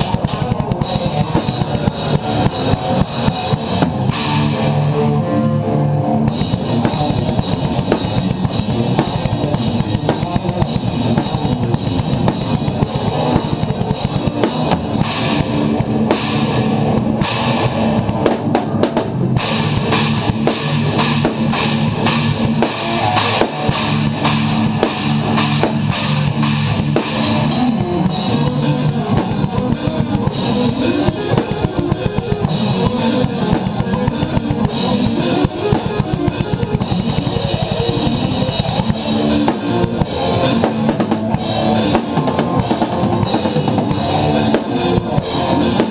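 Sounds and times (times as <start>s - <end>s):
metal band music: 0.0s - 45.9s
rapid bass drum strokes: 0.0s - 45.9s
sustained low notes: 0.0s - 45.9s.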